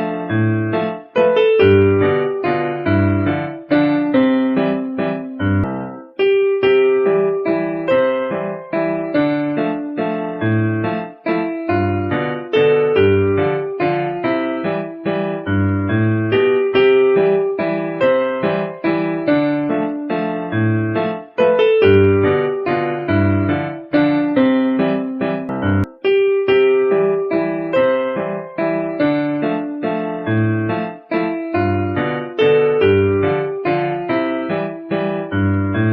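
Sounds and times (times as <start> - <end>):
electric keyboard melody: 0.0 - 35.9.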